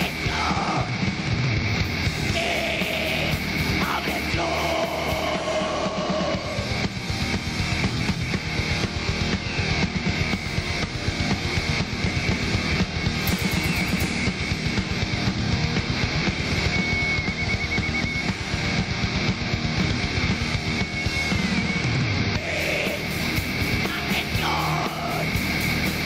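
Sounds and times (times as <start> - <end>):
distorted electric guitars: 0.0 - 26.0
fast dense drumming: 0.0 - 26.0.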